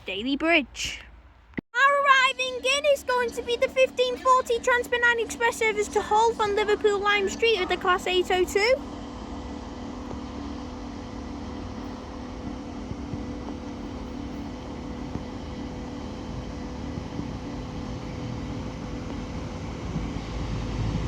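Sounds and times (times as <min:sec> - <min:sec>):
train hum with steady tones: 0:00.0 - 0:21.0.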